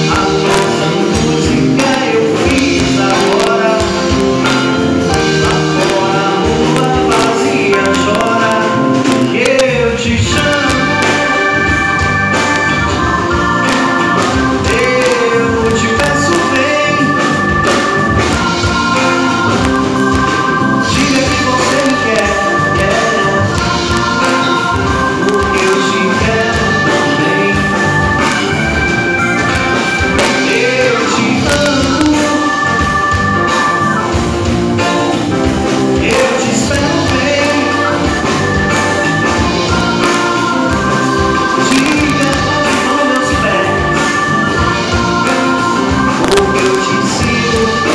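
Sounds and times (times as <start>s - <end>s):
man singing: 0.0s - 20.2s, 20.8s - 28.8s, 30.0s - 34.1s, 35.8s - 47.9s
acoustic-electric guitar: 0.0s - 47.9s
drums: 0.0s - 47.9s
electric bass: 0.0s - 47.9s
keyboard holding long chords: 0.0s - 47.9s.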